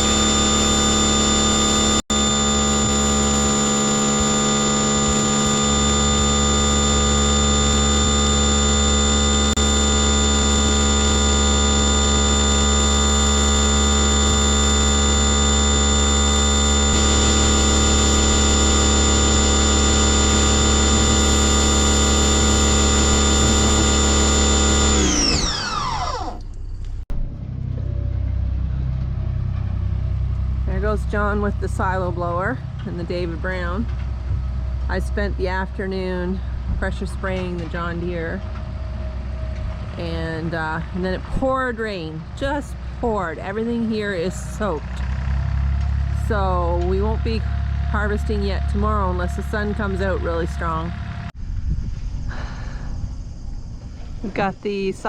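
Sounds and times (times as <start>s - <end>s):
pressure washer motor whining: 0.0s - 27.0s, 30.3s - 51.3s.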